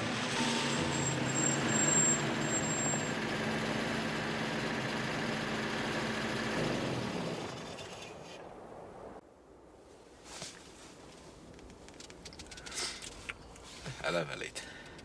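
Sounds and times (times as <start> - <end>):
road noise: 0.0 - 9.2, 9.8 - 15.0.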